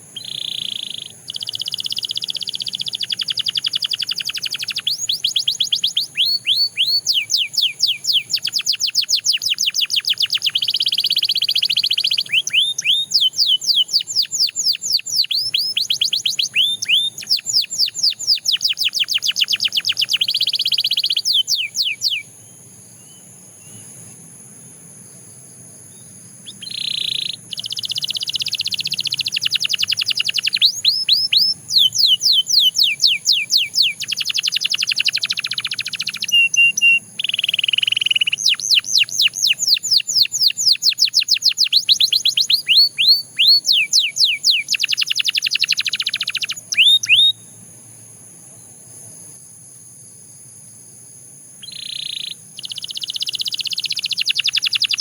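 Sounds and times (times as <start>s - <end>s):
canary singing: 0.0s - 24.6s, 25.9s - 47.6s, 51.6s - 55.0s.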